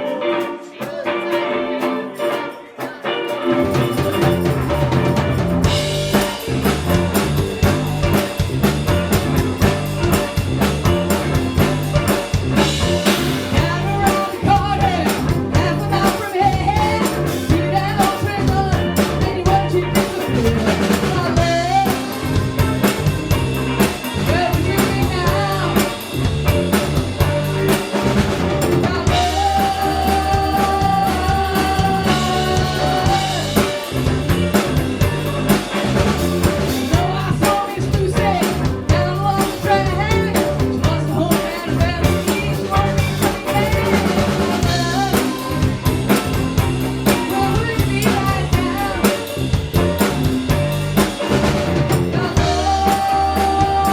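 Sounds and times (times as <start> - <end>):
band playing a groove: 0.0 - 53.9.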